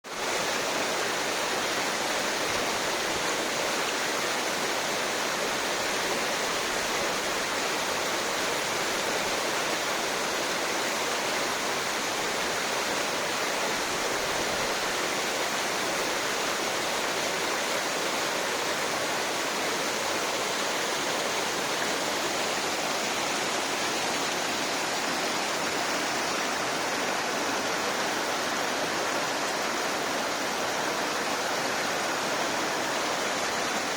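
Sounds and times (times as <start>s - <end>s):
waterfall rushing and splashing: 0.0s - 33.9s.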